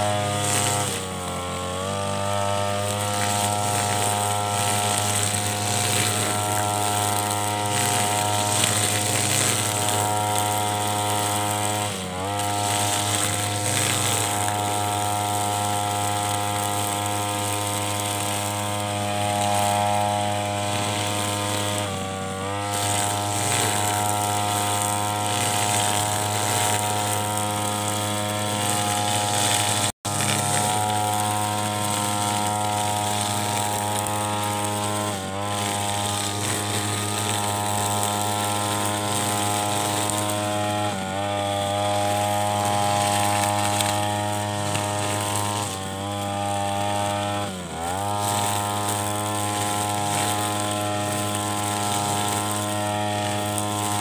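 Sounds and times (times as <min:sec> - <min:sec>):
brush cutter engine droning: 0:00.0 - 0:54.0.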